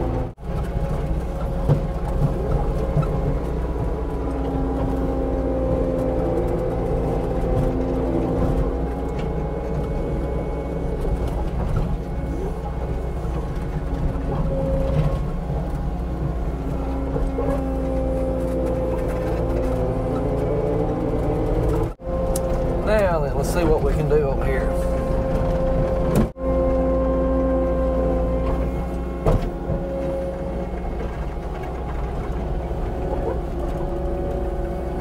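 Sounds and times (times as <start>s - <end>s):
diesel engine under load: 0.0s - 35.0s
whine bending in pitch: 0.0s - 35.0s.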